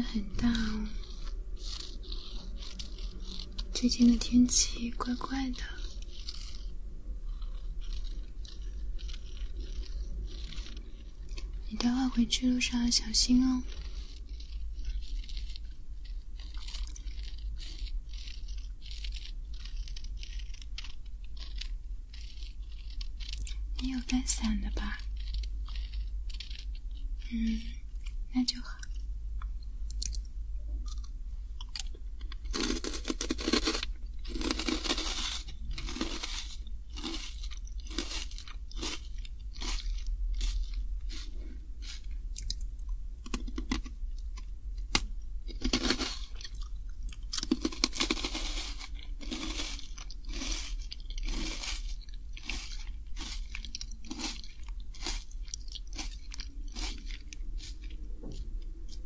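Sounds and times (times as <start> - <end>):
crunching crispy potato sticks: 0.0 - 59.0.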